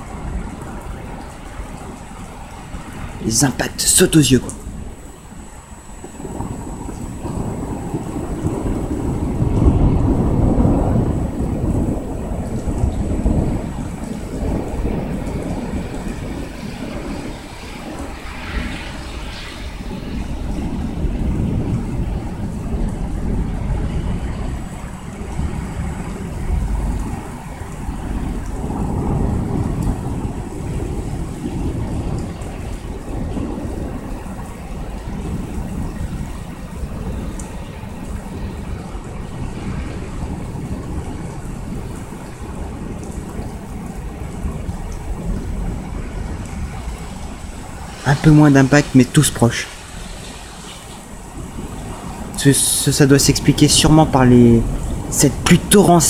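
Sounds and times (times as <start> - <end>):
heavy rain hiss: 0.0 - 56.0
thunder rumbling: 0.0 - 56.0.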